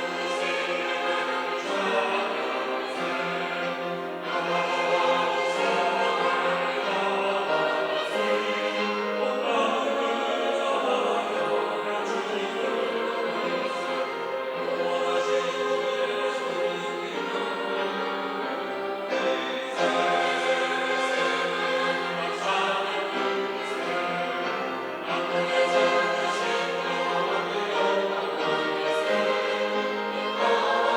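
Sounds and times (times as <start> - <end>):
church choir singing: 0.0 - 30.9.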